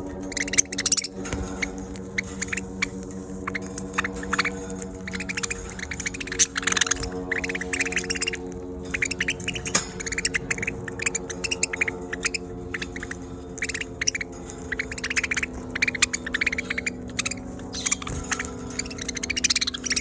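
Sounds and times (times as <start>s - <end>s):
budgerigars chattering: 0.0s - 20.0s
steady low hum: 0.0s - 20.0s.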